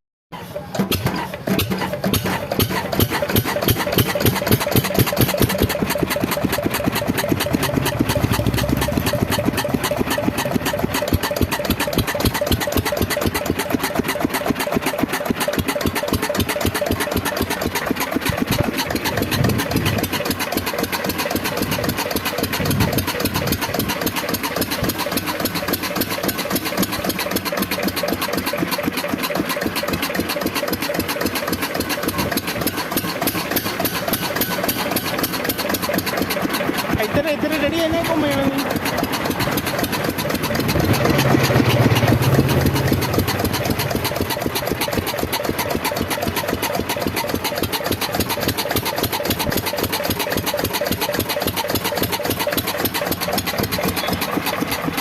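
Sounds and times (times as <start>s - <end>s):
stationary diesel engine running: 0.3s - 55.0s.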